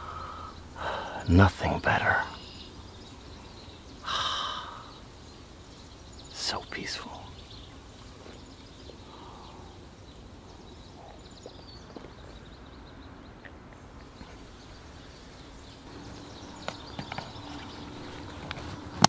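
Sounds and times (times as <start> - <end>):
bird chirps: 0.0 - 19.0
low steady buzz: 0.0 - 19.0.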